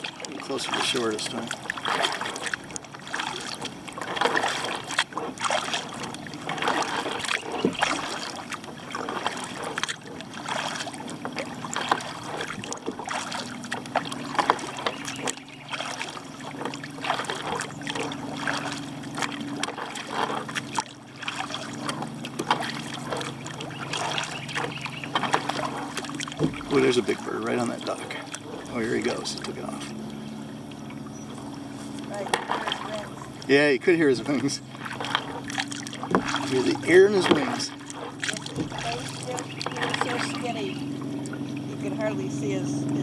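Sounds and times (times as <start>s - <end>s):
paddle strokes splashing water: 0.0s - 43.0s
steady low hum: 0.0s - 43.0s
water trickling off paddle: 0.0s - 43.0s.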